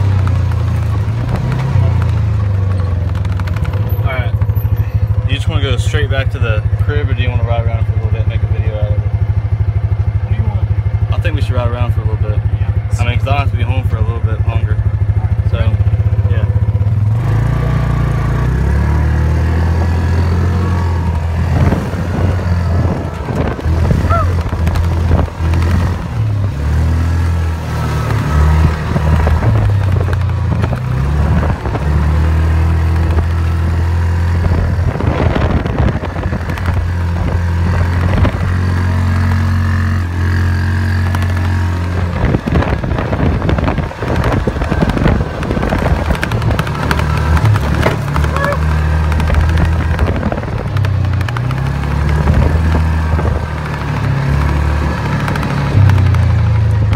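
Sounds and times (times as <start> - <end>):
utility vehicle engine running: 0.0 - 56.9.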